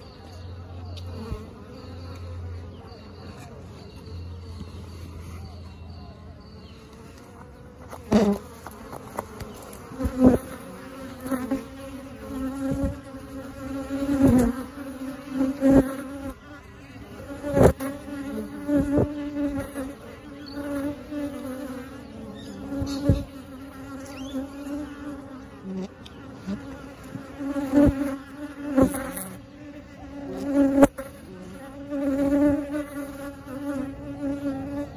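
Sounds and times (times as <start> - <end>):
bees buzzing: 0.0 - 5.7, 6.3 - 34.9
bees flying past microphone: 0.9 - 2.8, 6.9 - 34.9.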